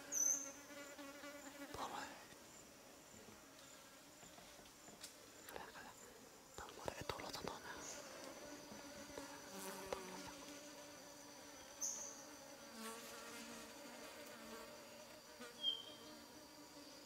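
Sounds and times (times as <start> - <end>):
insects buzzing and droning: 0.0 - 17.0.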